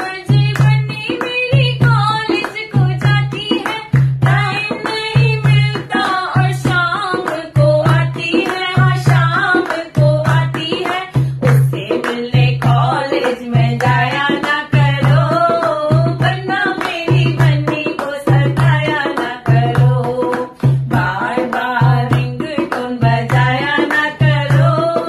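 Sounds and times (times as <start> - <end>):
hand drum beat: 0.0 - 25.0.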